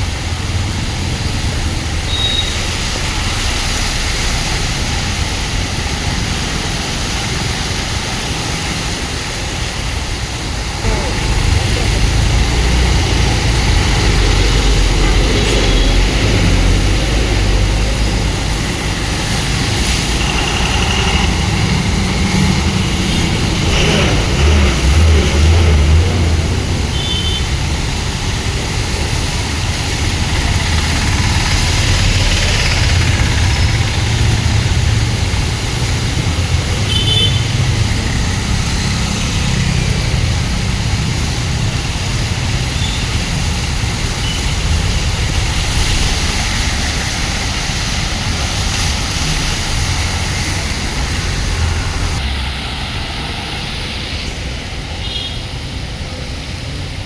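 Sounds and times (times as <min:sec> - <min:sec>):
motor vehicle rumbling: 0:00.0 - 0:57.0.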